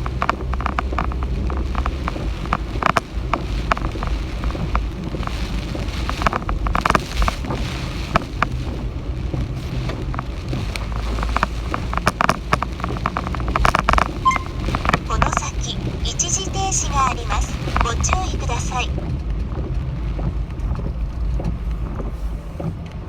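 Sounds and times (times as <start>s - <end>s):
heavy rain: 0.0s - 23.0s
raindrops striking a surface: 0.0s - 23.0s
wind rumble: 0.0s - 23.0s.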